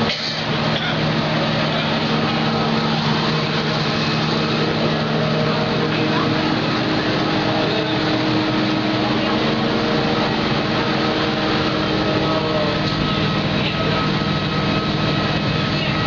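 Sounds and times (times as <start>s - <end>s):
constant motor tones: 0.0s - 16.0s
people talking: 0.0s - 16.0s
train car hum: 0.0s - 16.0s.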